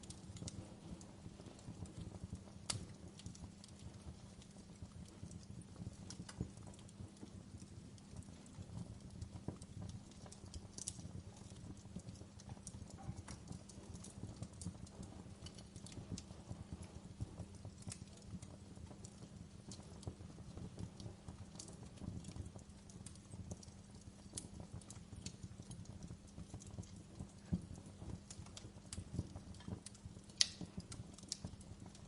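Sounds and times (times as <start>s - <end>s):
fire crackles and pops: 0.0s - 32.0s
fire flames rumbling: 0.0s - 32.0s.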